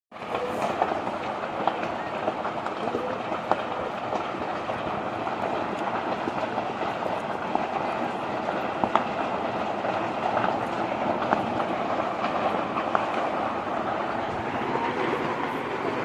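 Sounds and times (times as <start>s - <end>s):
fire crackling and popping: 0.1s - 16.0s.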